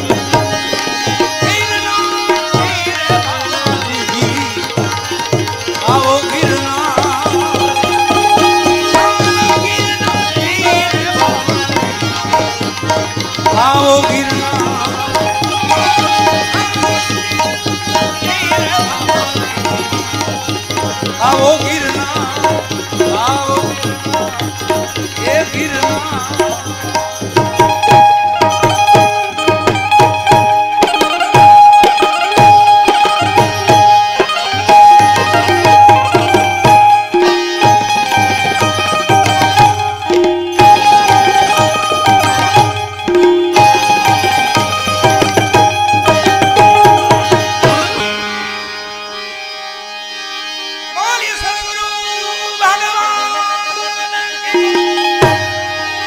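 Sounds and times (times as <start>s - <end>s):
tabla beating a rhythm: 0.0s - 49.4s, 50.6s - 56.0s
sliding melody instrument: 0.0s - 56.0s.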